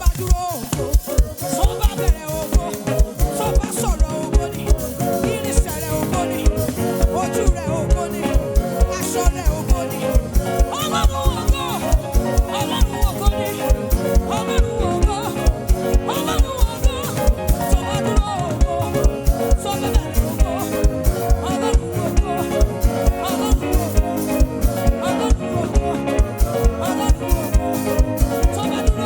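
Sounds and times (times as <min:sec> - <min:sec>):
driving drum beat: 0:00.0 - 0:29.0
live band playing gospel music: 0:00.0 - 0:29.0.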